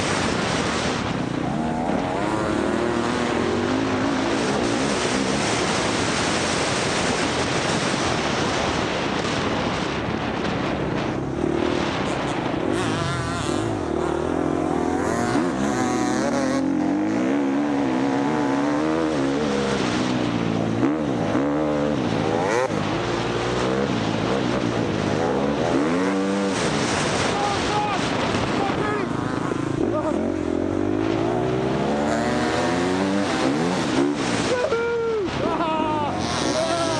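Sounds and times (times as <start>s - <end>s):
dirt bike engine revving: 0.0s - 36.9s
rush of wind and ground noise: 0.0s - 36.9s.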